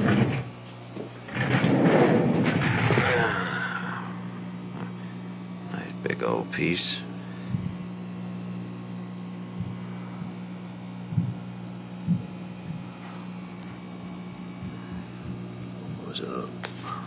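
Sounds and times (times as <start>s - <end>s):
aquarium equipment hum: 0.0s - 17.0s.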